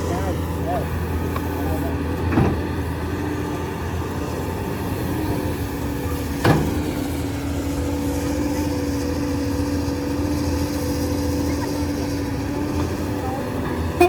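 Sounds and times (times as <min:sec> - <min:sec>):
excavator engine and hydraulics: 0:00.0 - 0:14.0.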